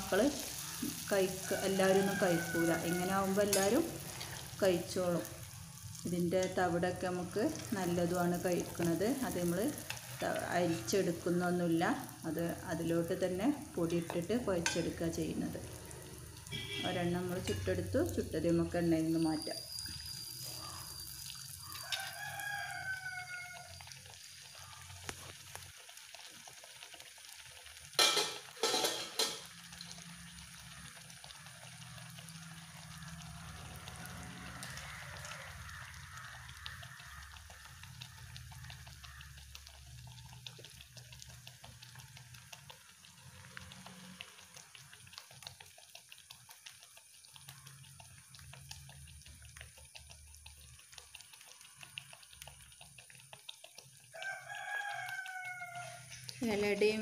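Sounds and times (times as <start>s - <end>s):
oil sizzling and crackling: 0.0s - 57.0s.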